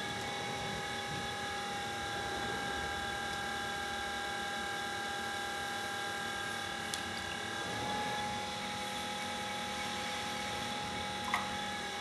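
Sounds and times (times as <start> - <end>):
potter's wheel motor whining: 0.0 - 12.0.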